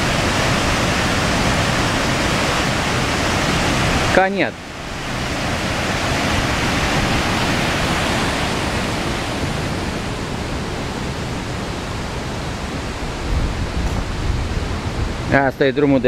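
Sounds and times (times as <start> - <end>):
mountain river rushing: 0.0 - 16.0.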